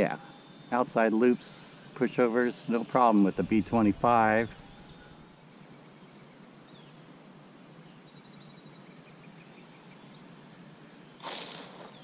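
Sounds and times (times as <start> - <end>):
faint field ambience: 0.0 - 12.0.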